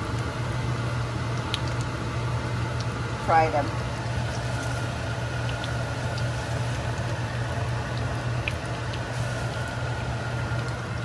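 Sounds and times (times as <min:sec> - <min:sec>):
bread sizzling in frying pan: 0:00.0 - 0:11.0
low steady hum: 0:00.0 - 0:11.0
oil popping and crackling: 0:00.0 - 0:11.0.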